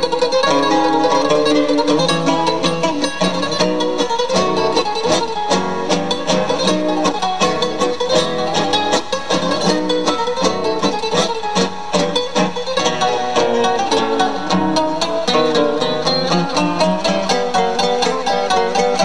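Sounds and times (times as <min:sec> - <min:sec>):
acoustic guitars playing folk tune: 0:00.0 - 0:19.0.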